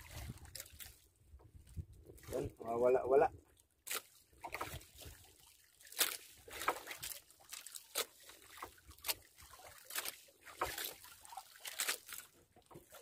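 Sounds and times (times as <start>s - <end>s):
water slapping against boat hull: 0.0s - 13.0s.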